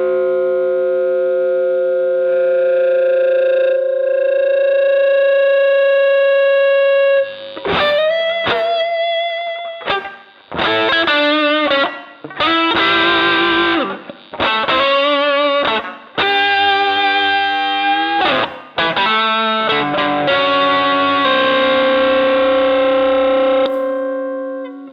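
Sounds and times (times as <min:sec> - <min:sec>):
electric guitar phrases and chords: 0:00.0 - 0:24.9.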